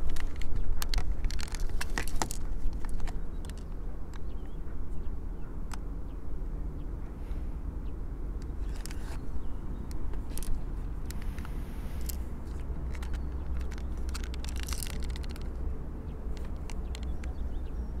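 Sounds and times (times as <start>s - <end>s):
handling clicks and rustles: 0.0s - 4.9s, 8.4s - 18.0s.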